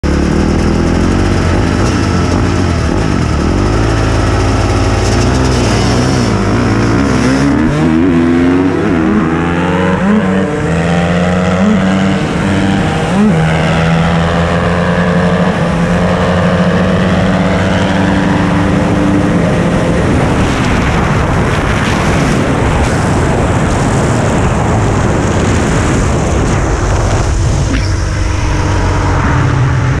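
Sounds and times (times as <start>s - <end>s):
dirt bike engines racing: 0.0s - 30.0s
loud rushing noise: 0.0s - 30.0s.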